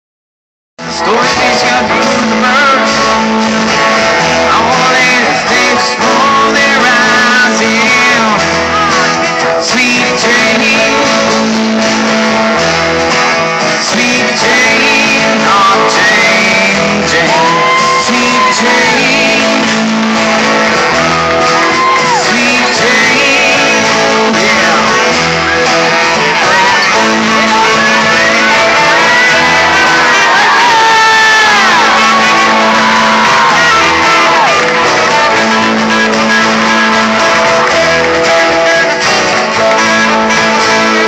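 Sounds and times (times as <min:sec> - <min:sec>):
live band with amplified guitars: 0:00.8 - 0:41.0
person singing: 0:00.8 - 0:41.0.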